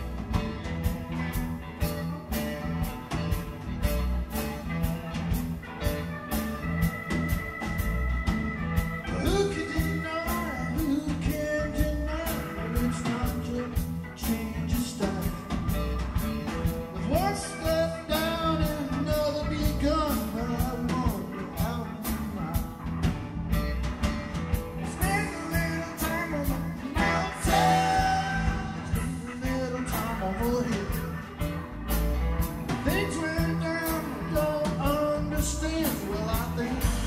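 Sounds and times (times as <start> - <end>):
bending lead guitar line: 0.0 - 37.0
drums: 0.0 - 37.0
rock band playing: 0.0 - 37.0.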